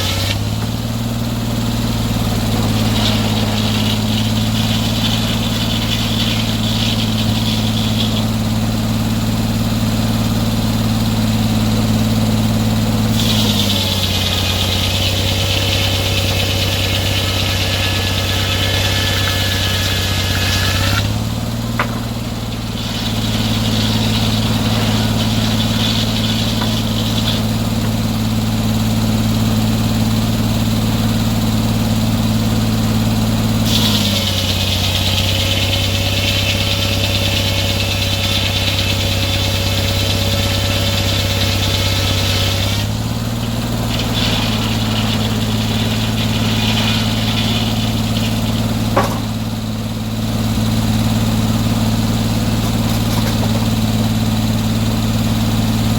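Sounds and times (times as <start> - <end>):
saw cutting hiss: 0.0 - 0.6, 1.8 - 9.6, 11.8 - 30.0, 33.0 - 54.5
sawmill engine running: 0.0 - 55.9.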